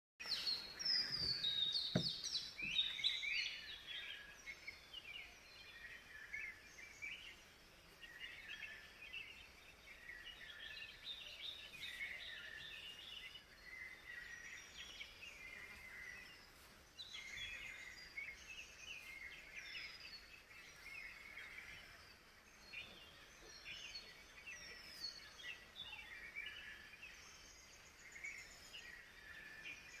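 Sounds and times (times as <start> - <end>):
birds chirping and whistling: 0.2 - 30.0.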